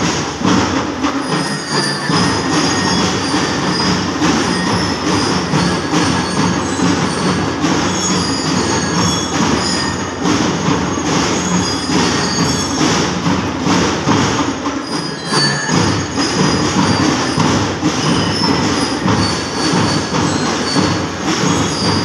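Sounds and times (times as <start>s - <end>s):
drums beating: 0.0s - 22.0s
high bell-lyre notes: 1.0s - 13.6s, 14.6s - 22.0s.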